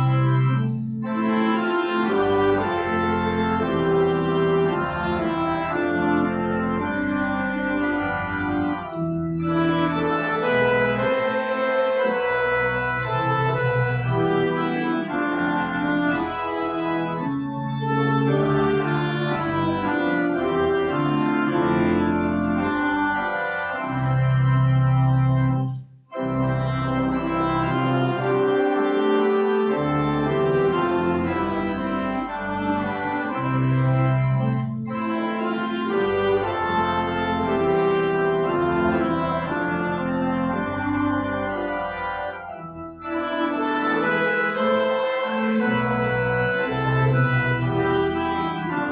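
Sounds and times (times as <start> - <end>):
organ playing held chords: 0.0 - 48.9.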